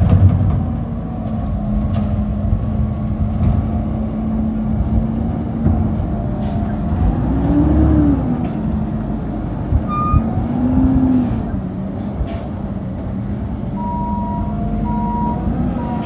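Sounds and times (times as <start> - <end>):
garbage truck engine revving: 0.1 - 16.0.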